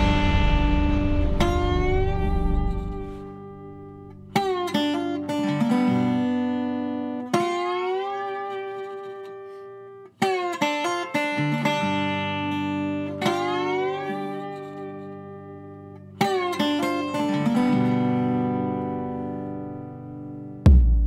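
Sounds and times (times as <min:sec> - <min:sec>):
plucked guitar with sliding notes: 0:00.0 - 0:21.0.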